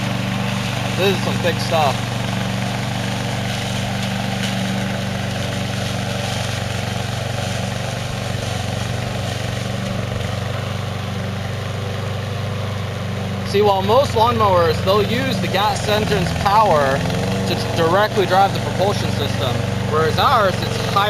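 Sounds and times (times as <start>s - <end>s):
mower engine drone: 0.0s - 21.0s.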